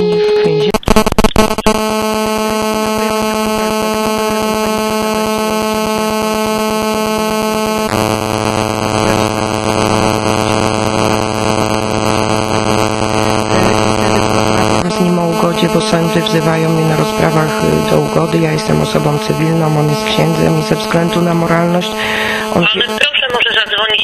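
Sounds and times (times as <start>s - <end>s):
electronic buzz on telephone line: 0.7s - 23.3s.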